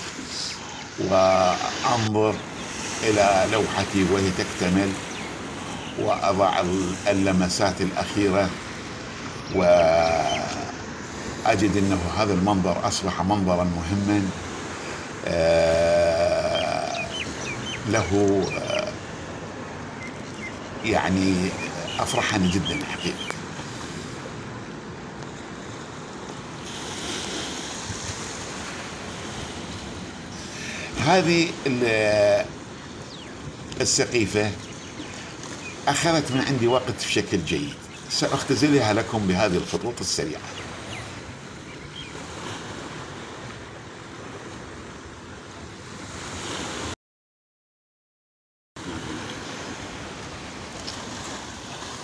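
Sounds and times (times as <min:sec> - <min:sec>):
waves washing onto beach: 0:00.0 - 0:47.0, 0:48.8 - 0:52.0.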